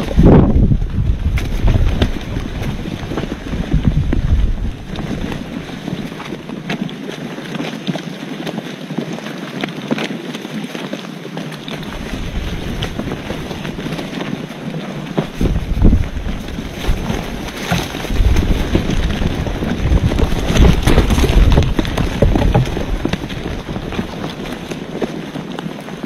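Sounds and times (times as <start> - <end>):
wind buffeting the microphone: 0.0 - 7.4, 11.6 - 26.0
crackling: 0.0 - 26.0.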